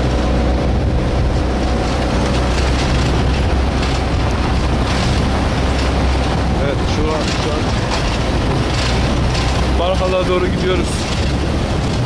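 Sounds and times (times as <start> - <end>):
car engine and tyre rumble: 0.0 - 12.0
wind noise: 0.0 - 12.0.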